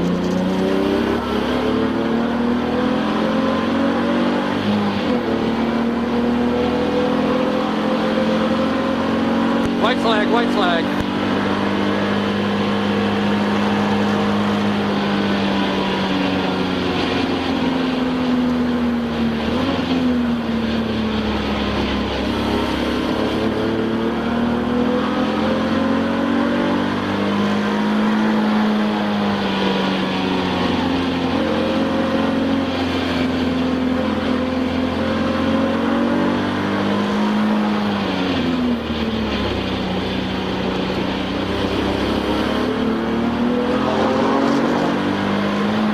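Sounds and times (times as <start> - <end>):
race car engine shifting gears: 0.0 - 45.9
road and wind noise: 0.0 - 45.9.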